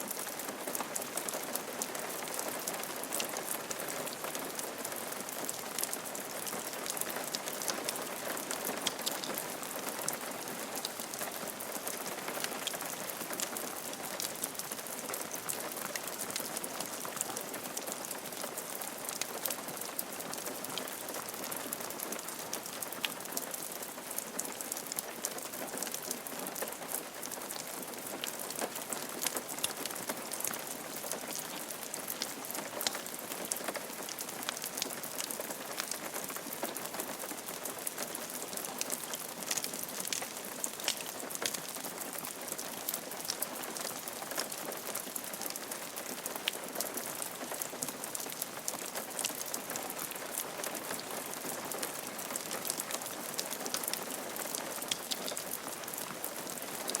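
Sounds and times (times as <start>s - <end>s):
rain falling on roof: 0.0s - 57.0s.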